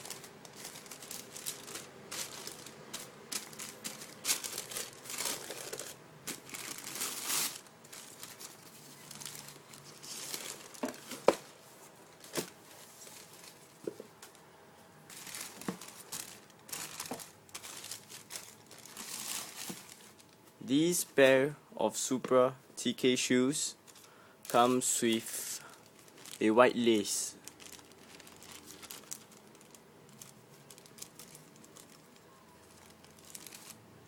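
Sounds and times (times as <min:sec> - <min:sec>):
plastic packaging crinkling: 0:00.0 - 0:14.4, 0:15.1 - 0:20.4, 0:23.8 - 0:33.9.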